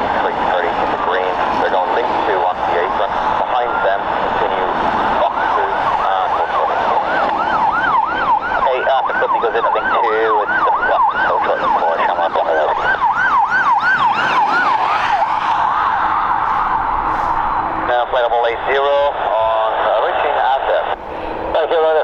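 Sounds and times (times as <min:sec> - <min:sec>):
warbling siren tone over radio: 0:00.0 - 0:21.8.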